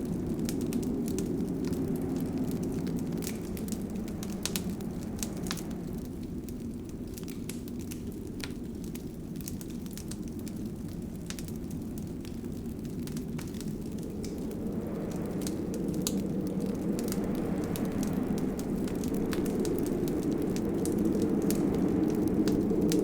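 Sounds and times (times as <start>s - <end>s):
low rumble of flames: 0.0s - 23.0s
wood fire crackling and popping: 0.0s - 23.0s.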